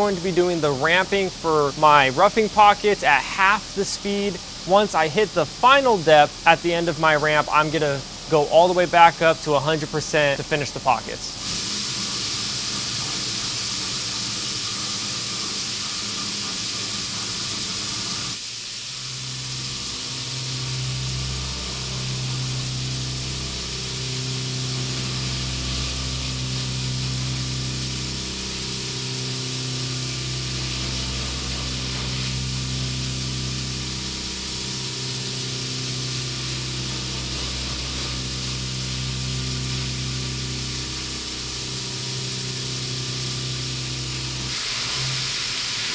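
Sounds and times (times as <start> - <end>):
coolant spray hissing: 0.0 - 45.9
milling machine cutting metal: 0.0 - 45.9.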